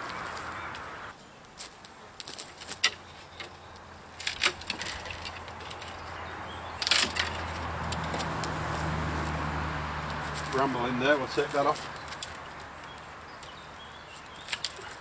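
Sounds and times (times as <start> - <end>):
lopper cutting branches: 0.0 - 15.0
rustling twigs and leaves: 0.0 - 15.0
branch snapping: 1.6 - 6.1, 6.8 - 15.0.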